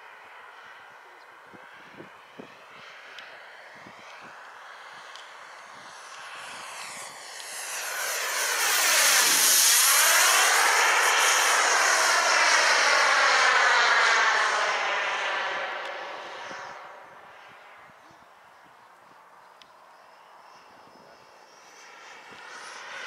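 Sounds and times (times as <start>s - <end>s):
model jet turbine flypast: 0.0s - 23.0s.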